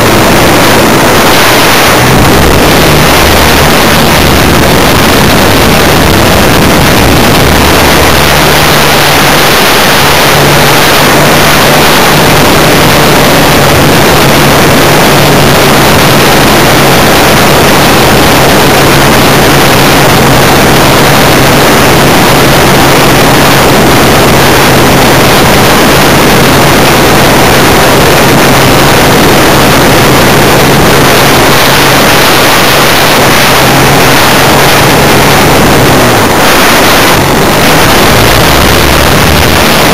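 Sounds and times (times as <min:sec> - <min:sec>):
model airplane engine roaring: 0:00.0 - 0:39.9
wind rush on microphone: 0:00.0 - 0:39.9.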